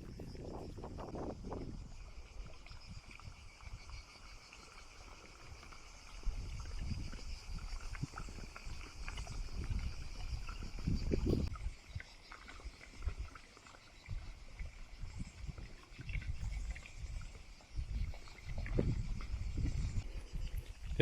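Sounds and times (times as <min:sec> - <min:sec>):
wind on microphone: 0:00.0 - 0:04.1, 0:05.5 - 0:13.4, 0:14.0 - 0:21.0
insect drone: 0:00.0 - 0:21.0.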